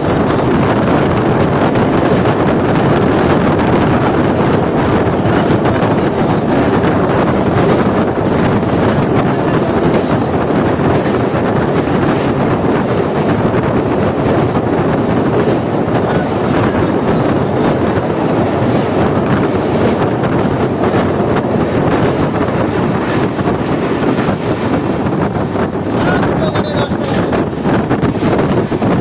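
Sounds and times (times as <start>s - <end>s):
train rumbling on rails: 0.0s - 29.0s
wind buffeting microphone: 0.0s - 29.0s.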